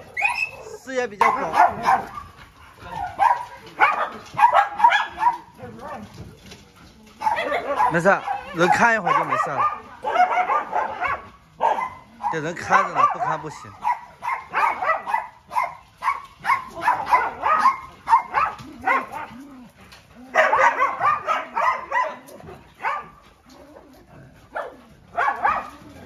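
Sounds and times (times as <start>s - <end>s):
dogs barking: 0.0s - 6.1s, 7.2s - 26.0s.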